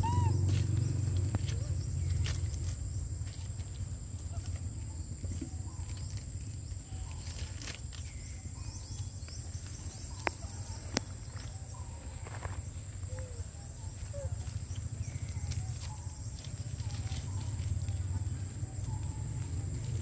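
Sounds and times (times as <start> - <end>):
faint monkey calls: 0.0 - 20.0.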